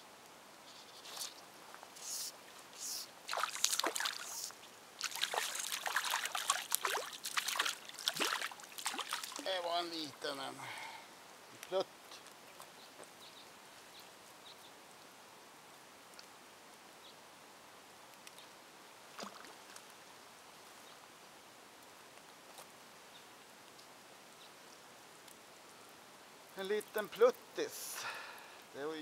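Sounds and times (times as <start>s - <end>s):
faint outdoor hiss: 0.0s - 29.0s.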